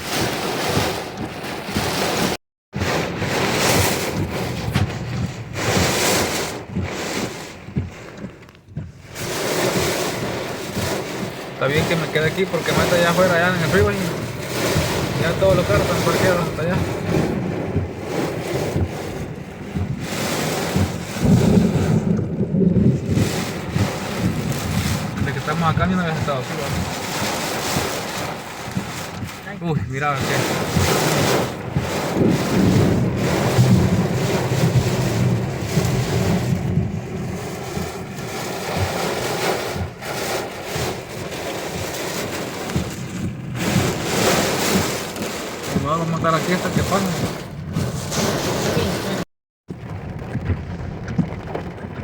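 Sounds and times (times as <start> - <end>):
heavy rain on car: 0.0 - 52.0
low rumble: 0.0 - 52.0
low thuds: 0.0 - 52.0
storm wind buffeting microphone: 0.0 - 52.0.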